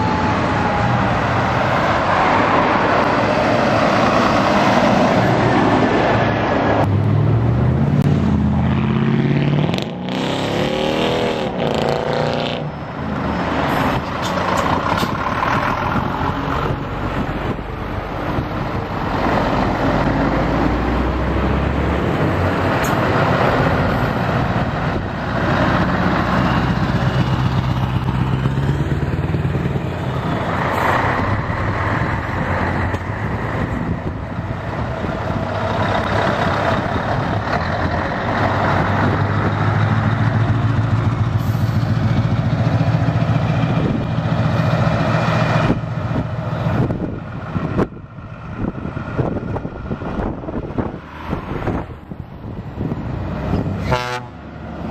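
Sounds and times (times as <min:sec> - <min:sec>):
diesel trucks driving past: 0:00.0 - 0:54.9.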